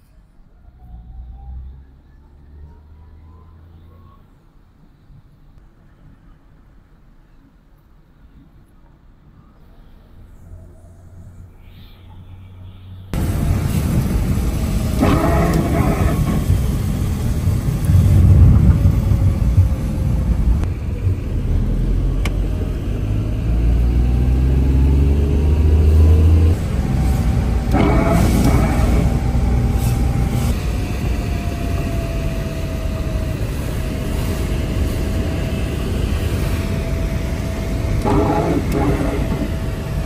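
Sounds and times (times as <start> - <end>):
car engine accelerating: 0.6 - 4.2, 10.1 - 40.0.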